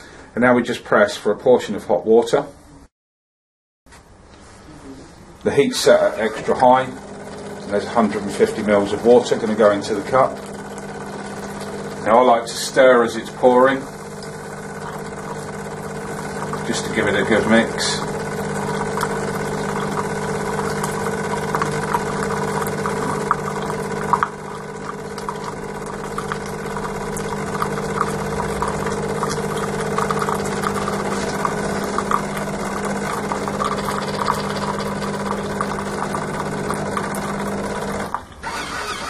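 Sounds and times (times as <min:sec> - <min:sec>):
coffee machine pump running: 0:05.4 - 0:39.0.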